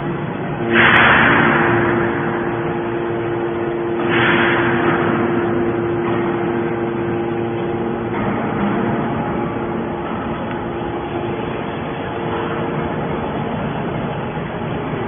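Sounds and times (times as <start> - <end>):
baler machine hum: 0.0 - 15.0
hydraulic hissing rush: 0.6 - 15.0.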